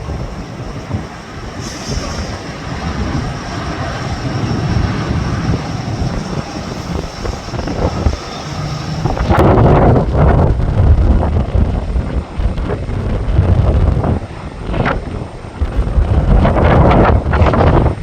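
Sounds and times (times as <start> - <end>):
aircraft engines whining: 0.0 - 18.0
wind buffeting microphone: 0.0 - 18.0.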